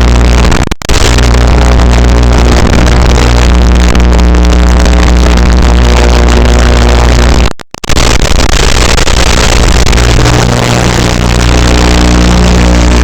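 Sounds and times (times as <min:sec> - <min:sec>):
electronic music with heavy bass: 0:00.0 - 0:13.0.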